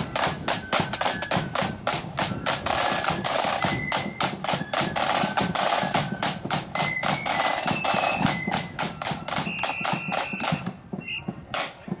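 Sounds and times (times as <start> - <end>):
flutes playing high notes: 0.0 - 12.0
side drums beating: 0.0 - 12.0.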